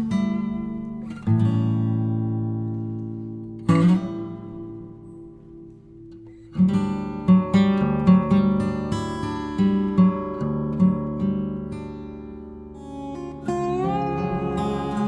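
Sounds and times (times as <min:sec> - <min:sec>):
acoustic guitar strummed chords: 0:00.0 - 0:15.0
plucked guitar notes: 0:00.0 - 0:15.0.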